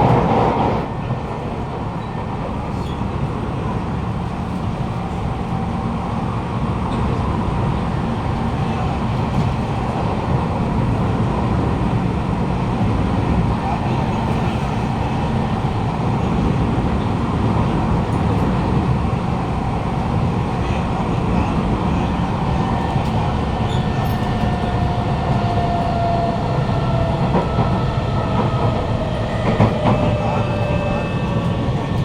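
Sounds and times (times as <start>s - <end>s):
train wheel and track rumble: 0.0s - 32.0s.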